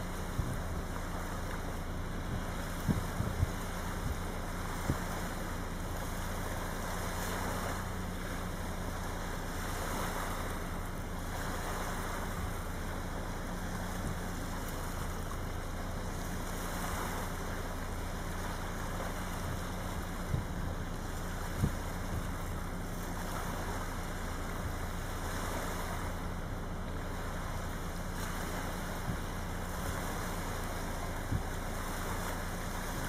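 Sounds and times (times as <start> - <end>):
small waves washing onto beach: 0.0 - 33.0.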